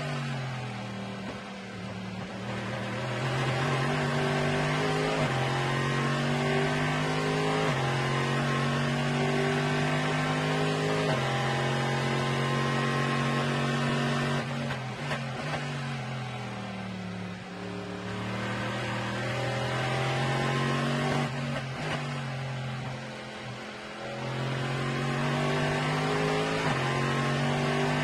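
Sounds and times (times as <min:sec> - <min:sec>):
race car engine accelerating: 0:02.2 - 0:28.0.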